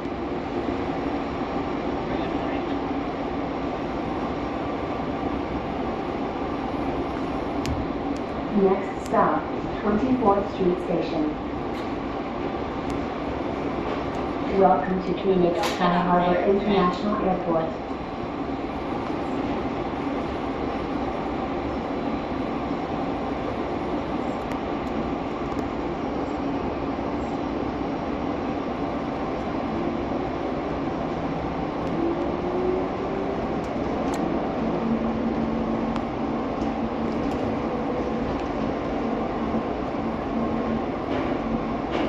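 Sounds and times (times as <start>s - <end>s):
train rumble from inside: 0.0s - 42.0s.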